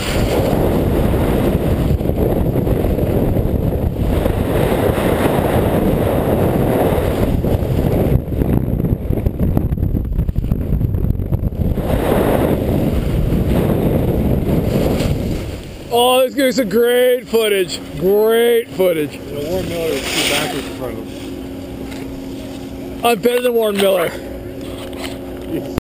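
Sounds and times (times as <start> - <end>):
wind buffeting microphone: 0.0 - 25.8.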